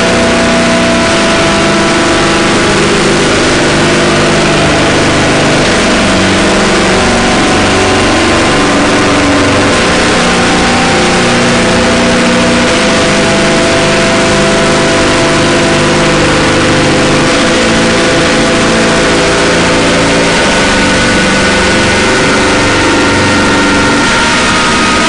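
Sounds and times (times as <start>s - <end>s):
harsh noise drone music: 0.0s - 25.0s.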